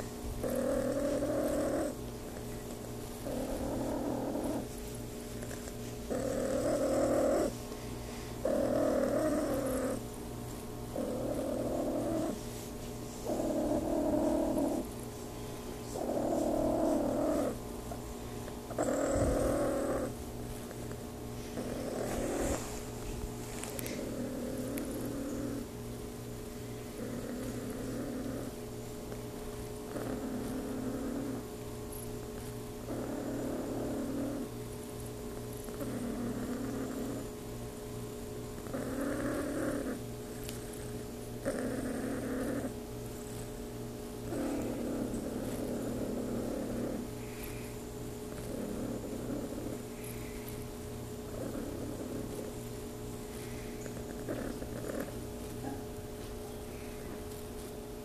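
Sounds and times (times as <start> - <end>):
cat purring: 0.0 - 25.8, 26.7 - 34.6, 35.3 - 37.4, 38.6 - 43.6, 44.2 - 57.7.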